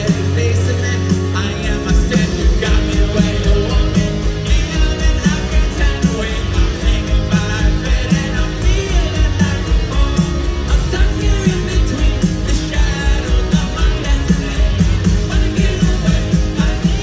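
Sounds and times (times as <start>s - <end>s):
electric guitars: 0.0s - 17.0s
live rock band playing: 0.0s - 17.0s
steady drum beat: 0.0s - 17.0s
sung vocals: 0.0s - 17.0s.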